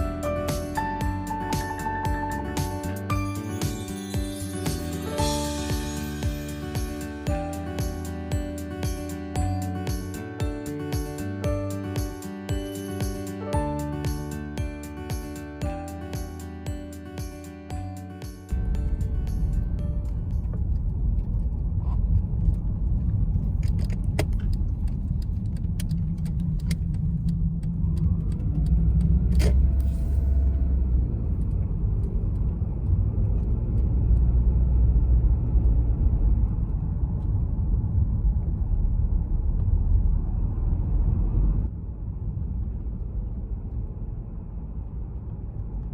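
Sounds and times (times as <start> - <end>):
road and tyre noise: 0.0 - 45.9.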